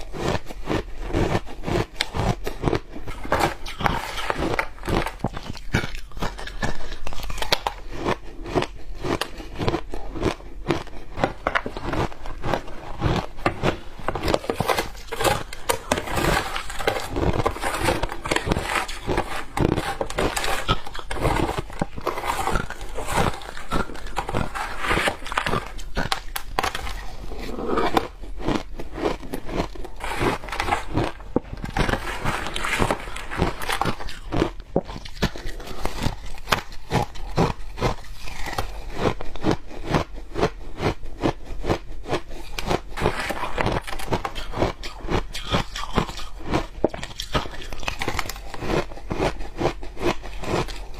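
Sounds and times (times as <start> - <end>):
chewing crunchy shaved ice: 0.0 - 50.9.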